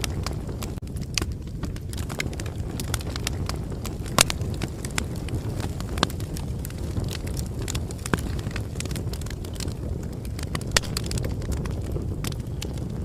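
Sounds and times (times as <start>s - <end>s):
campfire crackling and popping: 0.0s - 13.0s
low rumble of flames: 0.0s - 13.0s.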